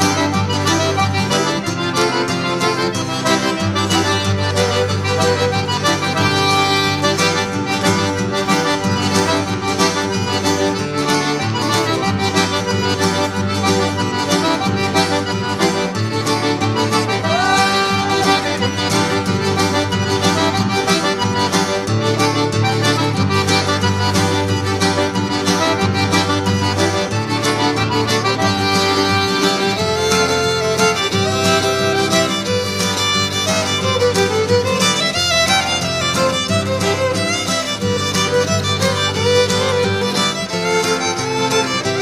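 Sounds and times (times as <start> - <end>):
instrumental music with steady beat: 0.0 - 42.0.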